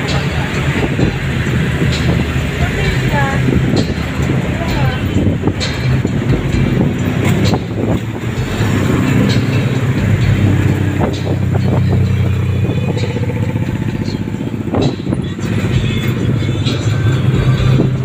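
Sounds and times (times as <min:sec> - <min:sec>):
motorcycle engine running: 0:00.0 - 0:18.0
road noise: 0:00.0 - 0:18.0.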